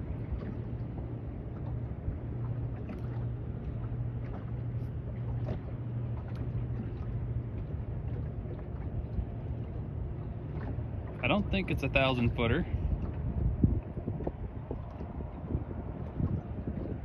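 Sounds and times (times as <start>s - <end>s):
boat engine droning: 0.0s - 17.0s
water lapping against hull: 0.0s - 17.0s.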